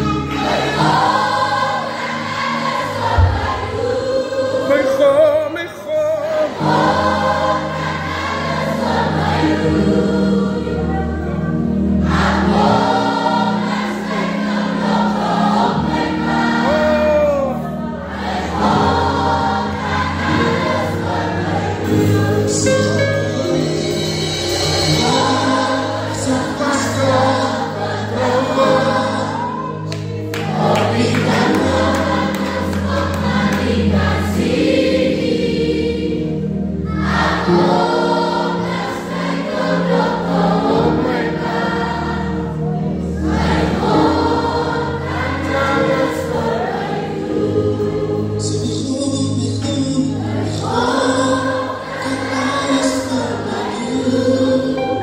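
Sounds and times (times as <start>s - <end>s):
choir singing a gospel song: 0.0s - 55.0s.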